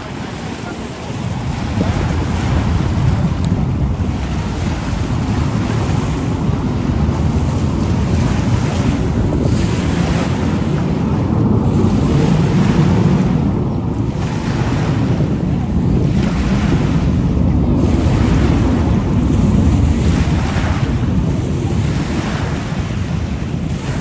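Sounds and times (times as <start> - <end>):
lake waves washing ashore: 0.0 - 24.0
wind rumbling on microphone: 0.0 - 24.0.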